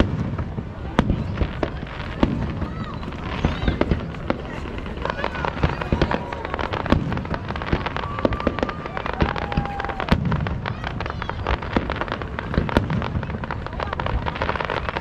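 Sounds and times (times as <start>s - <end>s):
fireworks bangs and crackles: 0.0s - 15.0s
fireworks whistling: 0.0s - 15.0s.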